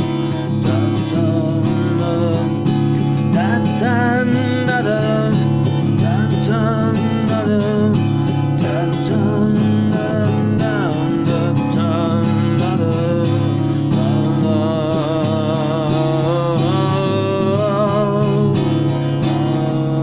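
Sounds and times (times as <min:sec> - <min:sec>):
acoustic guitar accompaniment: 0:00.0 - 0:20.0.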